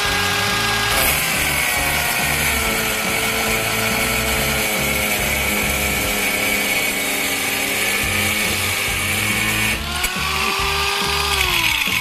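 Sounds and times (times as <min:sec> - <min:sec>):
angle grinder cutting: 0:00.0 - 0:12.0.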